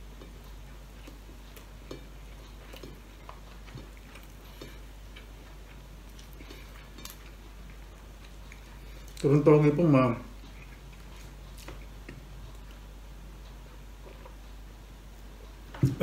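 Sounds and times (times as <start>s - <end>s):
person chewing: 0.0s - 9.3s, 10.3s - 14.6s
low steady hum: 0.0s - 16.0s.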